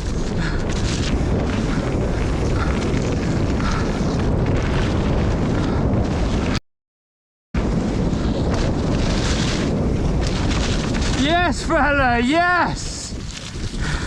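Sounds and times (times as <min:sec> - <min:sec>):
mountain bike rumbling and rattling: 0:00.0 - 0:06.6, 0:07.6 - 0:14.0
wind buffeting microphone: 0:00.0 - 0:06.6, 0:07.6 - 0:14.0.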